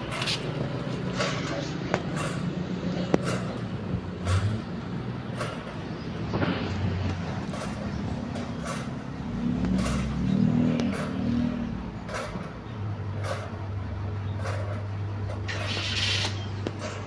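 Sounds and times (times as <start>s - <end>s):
fan swishing: 0.0s - 17.0s.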